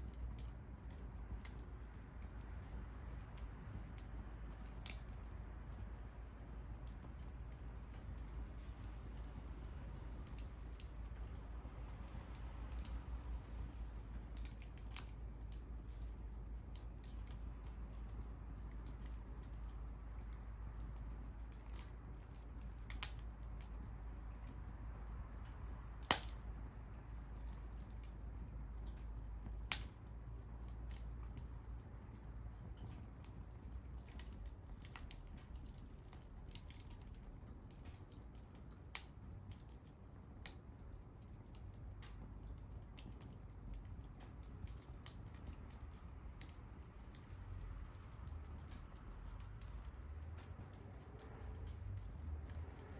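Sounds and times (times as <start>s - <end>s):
bonfire crackling and popping: 0.0s - 52.9s.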